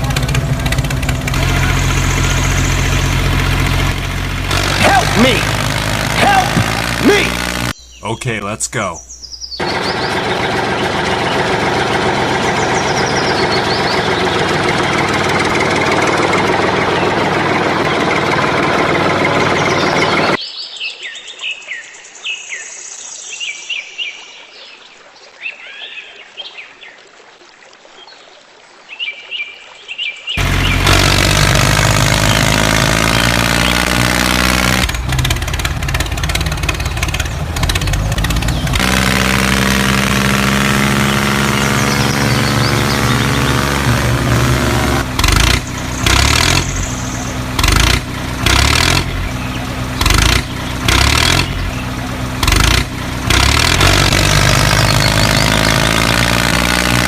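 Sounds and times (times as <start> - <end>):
tractor engine running: 0.0 - 8.8, 9.6 - 20.4, 30.4 - 57.0
birds chirping: 0.0 - 24.8, 29.1 - 57.0.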